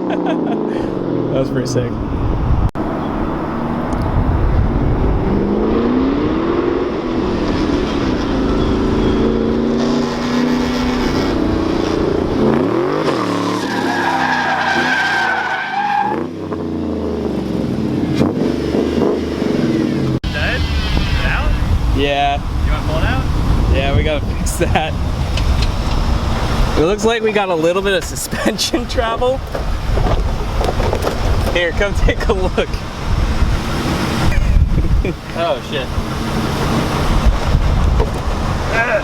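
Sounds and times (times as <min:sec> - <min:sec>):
car engine revving: 0:00.0 - 0:27.6, 0:28.8 - 0:39.0
tires squealing: 0:02.8 - 0:16.6, 0:18.0 - 0:39.0.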